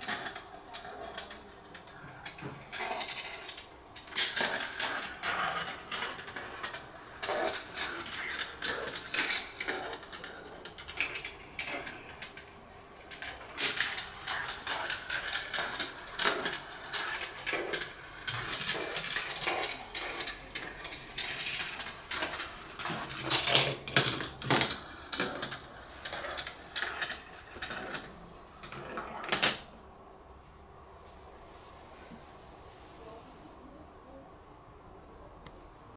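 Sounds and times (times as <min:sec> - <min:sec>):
marbles rattling through plastic run: 0:00.0 - 0:29.6.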